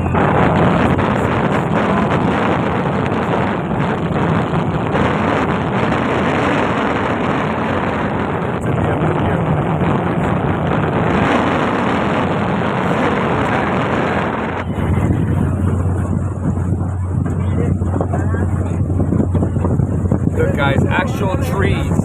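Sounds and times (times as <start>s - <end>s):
boat motor running: 0.0s - 22.0s
wind on microphone: 0.0s - 22.0s.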